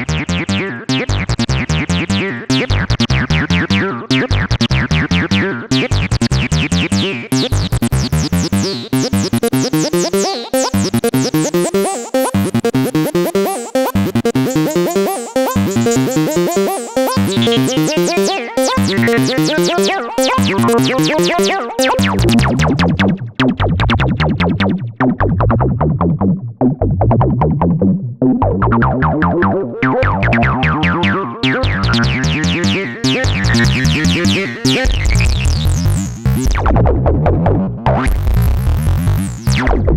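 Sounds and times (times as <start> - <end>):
synthesizer acid bassline: 0.0 - 26.0, 28.4 - 39.9.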